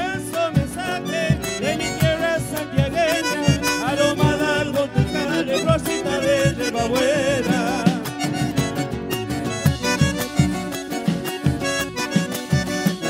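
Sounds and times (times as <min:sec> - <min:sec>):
accordion: 0:00.0 - 0:13.0
steady drum beat: 0:00.0 - 0:13.0
strummed acoustic guitars: 0:00.0 - 0:13.0.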